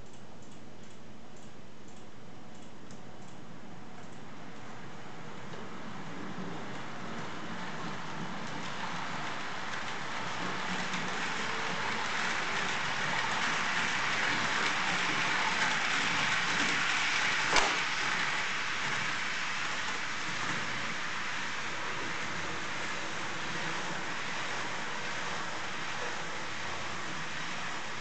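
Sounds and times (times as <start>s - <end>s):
model train rolling on track: 4.6s - 28.0s.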